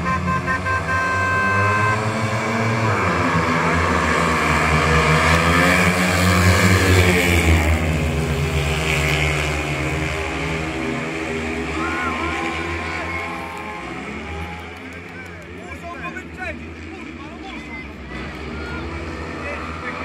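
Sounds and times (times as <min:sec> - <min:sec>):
motorcycle engines at full throttle: 0:00.0 - 0:20.0.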